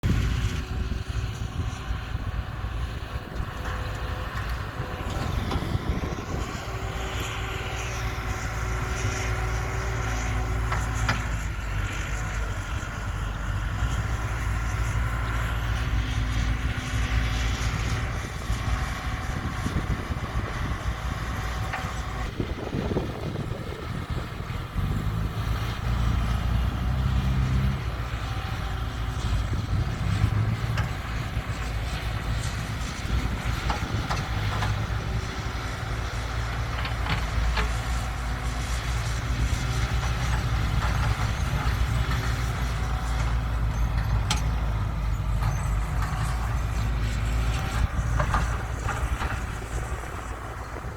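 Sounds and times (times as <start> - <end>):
heavy diesel machinery running: 0.0 - 50.9.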